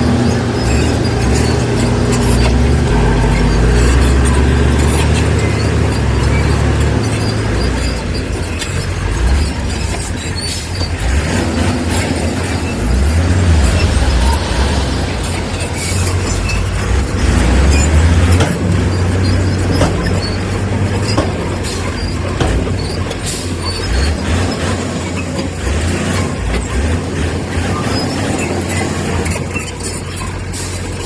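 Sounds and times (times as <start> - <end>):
diesel engine rumbling: 0.0 - 31.0
steel tracks and stone clanking: 0.0 - 31.0.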